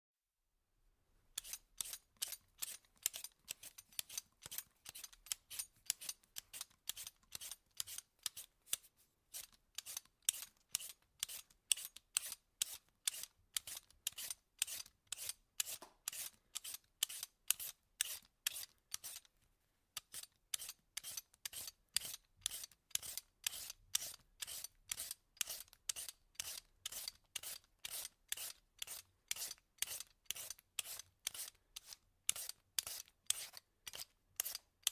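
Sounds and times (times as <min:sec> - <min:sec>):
vegetable peeler scraping: 0:01.4 - 0:19.3, 0:20.0 - 0:34.9.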